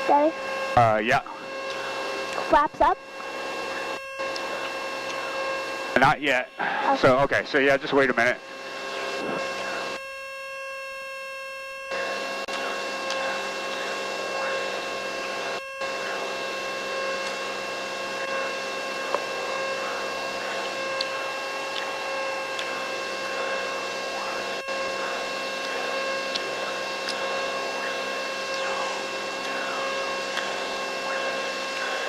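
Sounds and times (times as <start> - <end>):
aircraft engine drone in cabin: 0.4 - 32.0.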